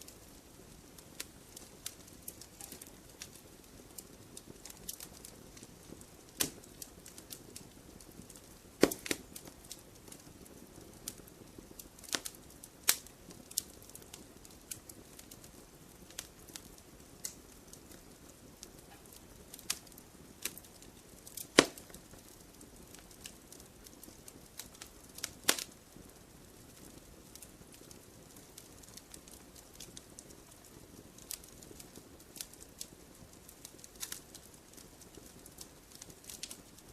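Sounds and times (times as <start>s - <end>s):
soft low hiss of fire: 0.0s - 36.9s
wood fire crackling: 0.0s - 36.9s.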